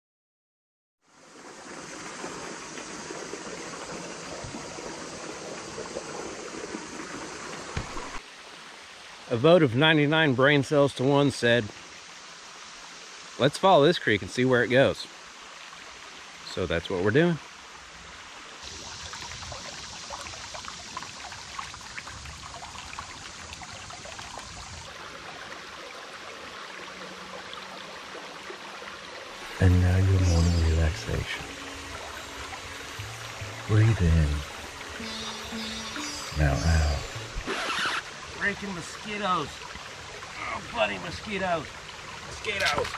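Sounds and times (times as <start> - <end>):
creek water flowing over rocks: 1.0 - 42.9.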